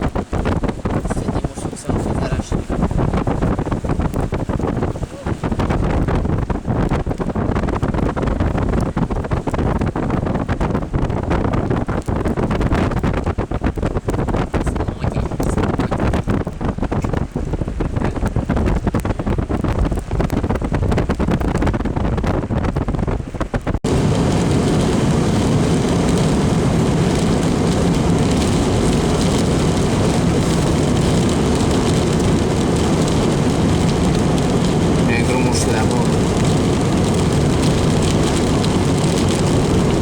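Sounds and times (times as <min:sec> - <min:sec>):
dense rushing noise: 0:00.0 - 0:40.0
wind buffeting microphone: 0:00.0 - 0:40.0.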